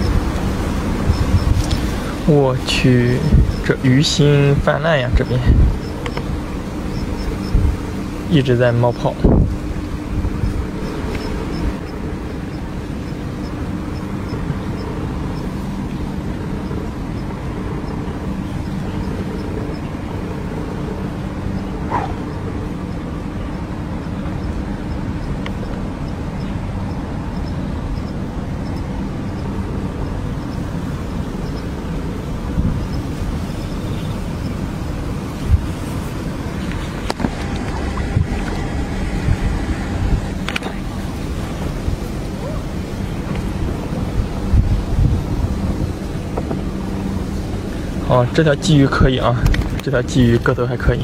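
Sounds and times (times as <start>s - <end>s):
faint hum: 0.0s - 51.0s
low outdoor rumble: 0.0s - 51.0s.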